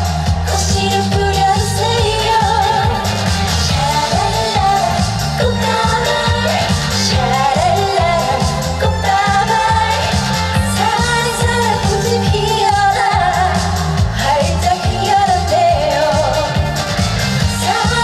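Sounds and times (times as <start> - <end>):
live band backing: 0.0 - 18.0
repeating bass line: 0.0 - 18.0
woman singing with vibrato: 0.4 - 16.8, 17.5 - 18.0.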